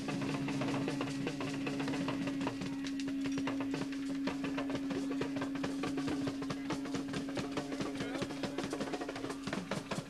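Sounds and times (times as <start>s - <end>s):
drum kit playing: 0.0s - 10.0s.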